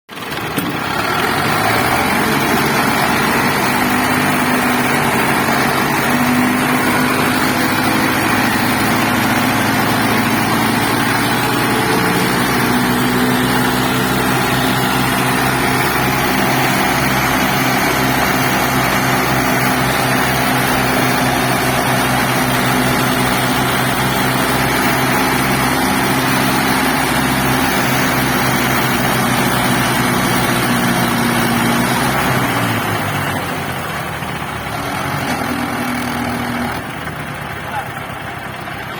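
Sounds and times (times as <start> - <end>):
tractor diesel engine running: 0.1 - 38.9.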